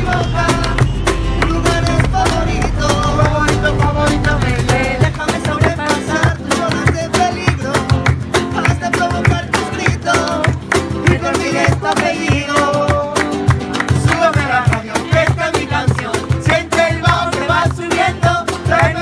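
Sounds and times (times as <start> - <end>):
fast strummed spanish guitar: 0.0 - 19.0.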